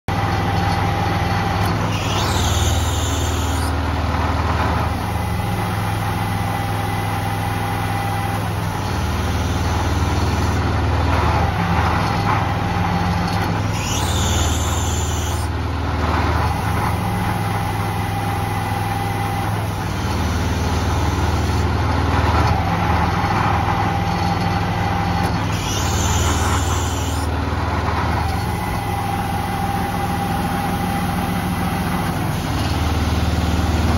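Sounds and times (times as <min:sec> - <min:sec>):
engine running under load: 0:00.1 - 0:33.9.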